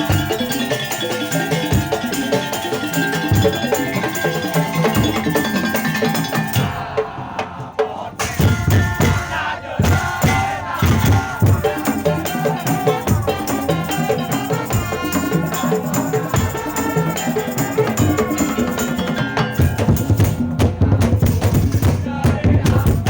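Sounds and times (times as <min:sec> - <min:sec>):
pitched melody line: 0:00.0 - 0:07.0, 0:08.2 - 0:21.8
struck percussion beat: 0:00.0 - 0:23.0.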